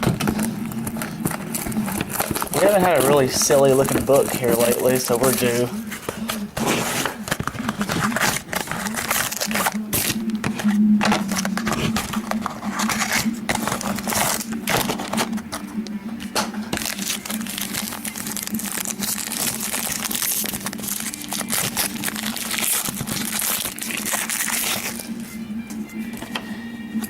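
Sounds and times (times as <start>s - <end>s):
wrapper crinkling and tearing: 0.0s - 25.4s
cards rustling and sliding: 0.0s - 26.6s.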